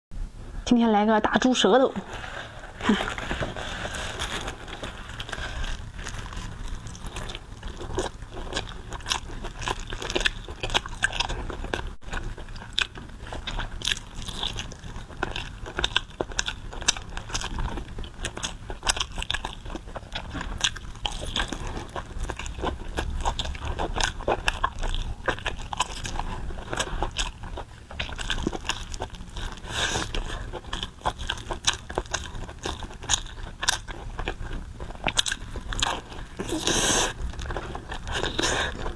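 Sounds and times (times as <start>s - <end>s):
biting and chewing: 2.0s - 38.9s.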